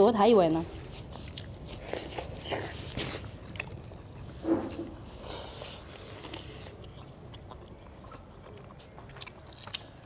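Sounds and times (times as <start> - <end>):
chewing and mouth noises: 0.7 - 10.0.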